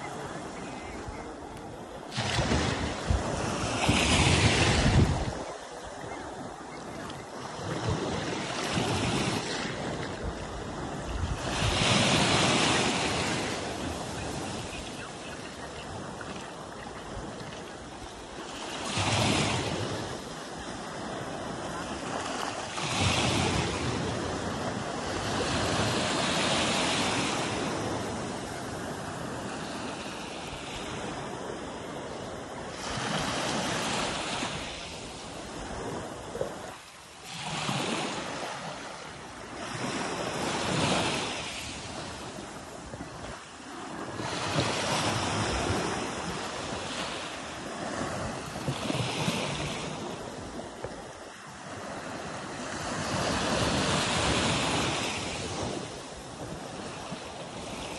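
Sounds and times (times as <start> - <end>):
small waves washing on shore: 0.0 - 57.9.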